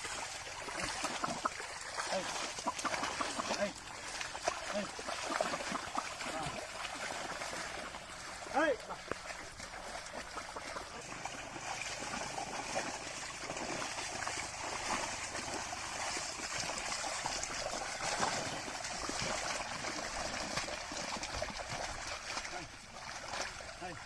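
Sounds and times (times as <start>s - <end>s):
muddy water sloshing and splashing: 0.0s - 24.0s.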